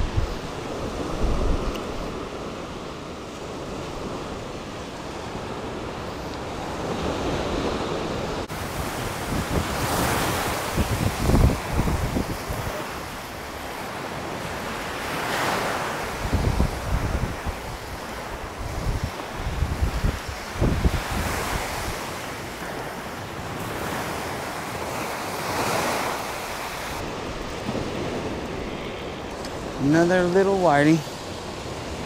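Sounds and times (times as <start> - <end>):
ocean surf washing onto beach: 0.0 - 32.0
wind buffeting microphone: 0.0 - 32.0.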